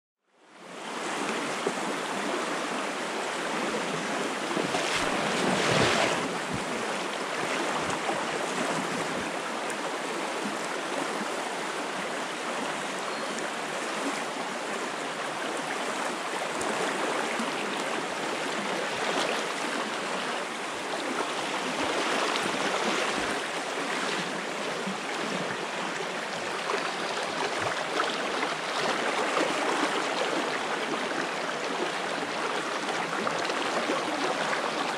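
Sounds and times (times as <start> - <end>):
brook flowing over stones: 0.6 - 34.9.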